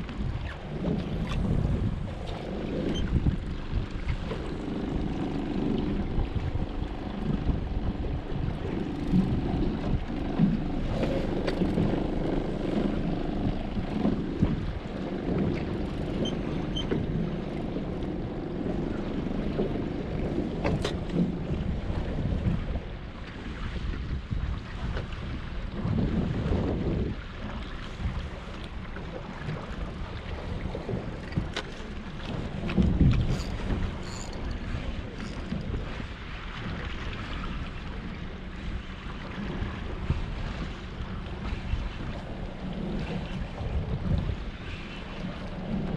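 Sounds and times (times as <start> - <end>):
low rumble of boat on water: 0.0 - 45.9
wind buffeting microphone: 0.0 - 45.9.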